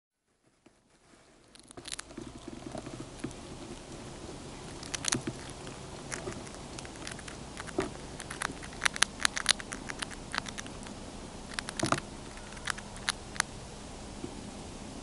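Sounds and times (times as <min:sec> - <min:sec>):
chipmunk crunching cereal: 0:00.9 - 0:13.6.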